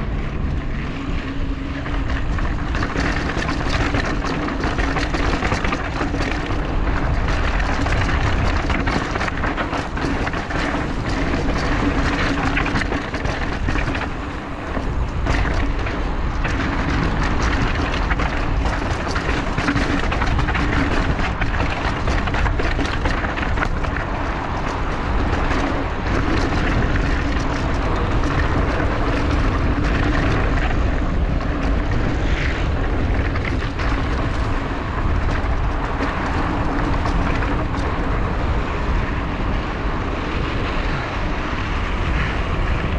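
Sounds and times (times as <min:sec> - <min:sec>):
bike rattling over rocks: 0:00.0 - 0:42.9
wind on microphone: 0:00.0 - 0:42.9.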